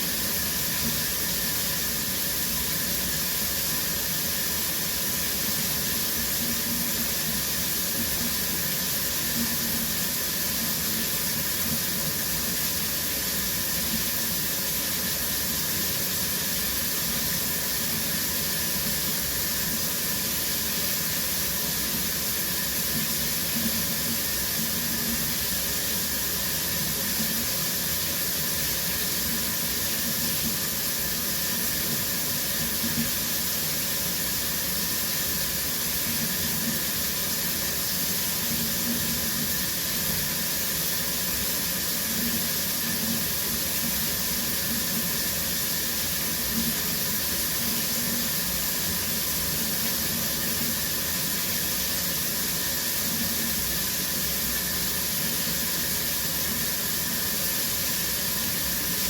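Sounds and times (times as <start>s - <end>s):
shower water spraying: 0.0s - 59.0s.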